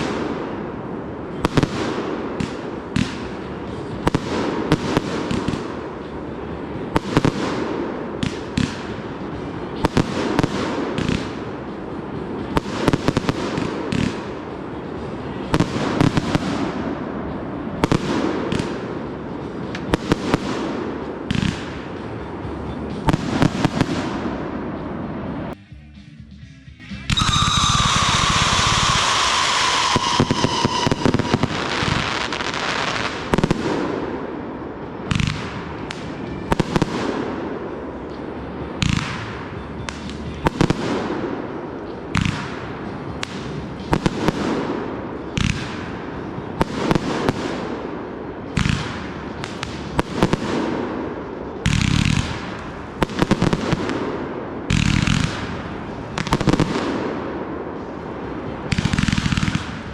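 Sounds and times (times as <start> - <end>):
deep fireworks booms: 0.0 - 25.6, 27.1 - 59.9
fireworks bangs: 0.0 - 25.6, 27.1 - 59.9
fireworks crackling: 0.0 - 25.6, 27.1 - 59.9.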